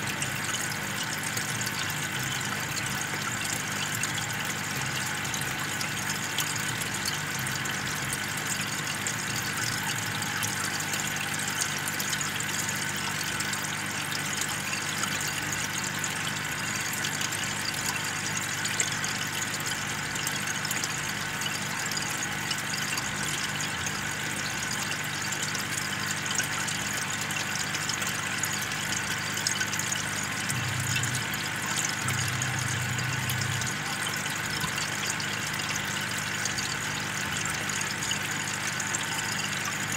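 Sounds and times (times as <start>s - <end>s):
air pump humming: 0.0s - 39.9s
air stone bubbling in water: 0.0s - 39.9s
bubbles bursting ticks: 0.0s - 39.9s.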